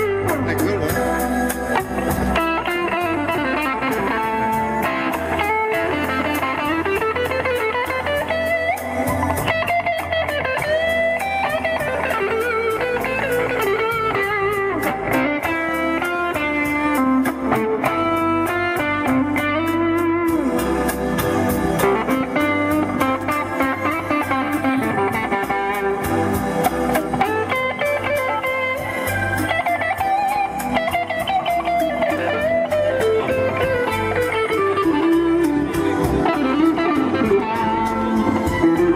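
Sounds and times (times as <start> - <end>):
electric guitar lead: 0.0 - 38.9.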